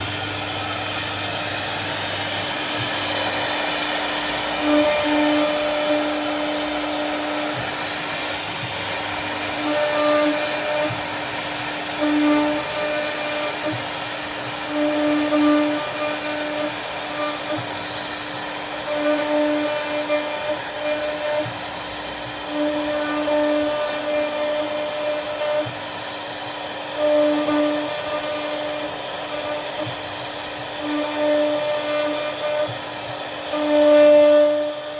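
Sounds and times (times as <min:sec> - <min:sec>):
router spindle whine carving wood: 0:00.0 - 0:34.9.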